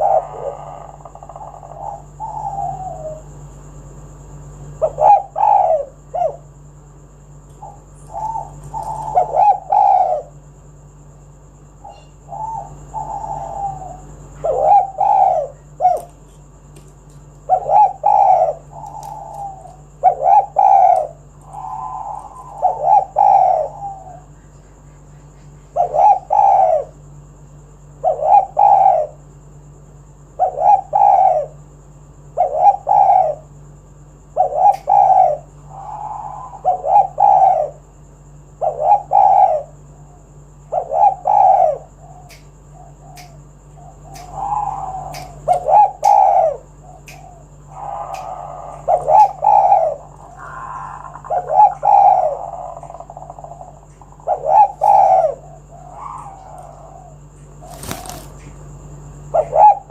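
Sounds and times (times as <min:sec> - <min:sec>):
dove cooing: 0:00.0 - 0:06.8, 0:07.4 - 0:24.9, 0:25.7 - 0:29.5, 0:30.3 - 0:59.9.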